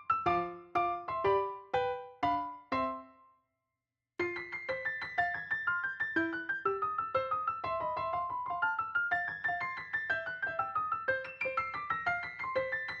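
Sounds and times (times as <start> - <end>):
light keyboard melody: 0.0 - 3.4, 4.2 - 13.0.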